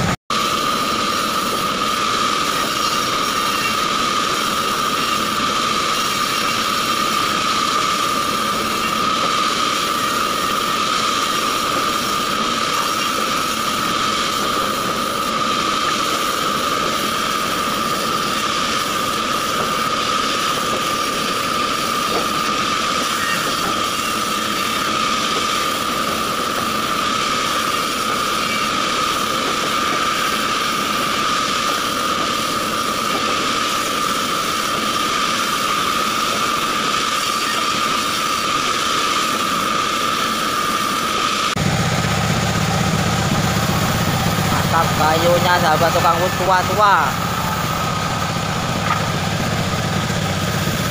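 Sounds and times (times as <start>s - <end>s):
band saw whining through log: 0.0s - 50.9s.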